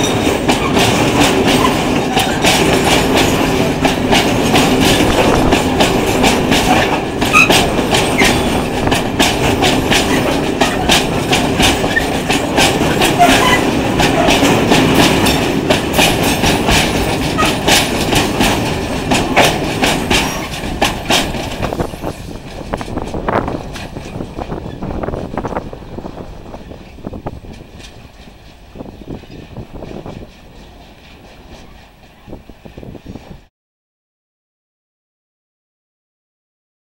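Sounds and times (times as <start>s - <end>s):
freight train wheels clacking: 0.0s - 33.5s.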